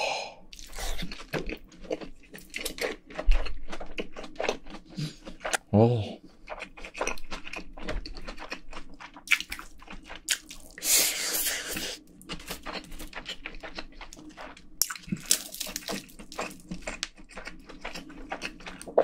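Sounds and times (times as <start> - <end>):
wet chewing and lip-smacking: 0.5 - 5.7, 6.3 - 19.0.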